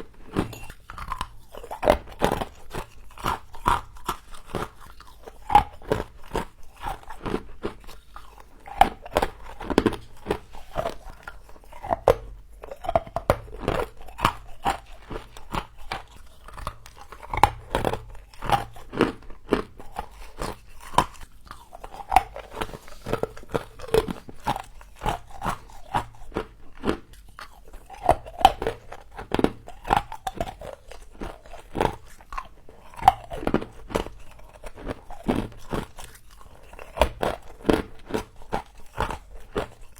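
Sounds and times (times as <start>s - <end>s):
person crunching frost: 0.2s - 39.9s.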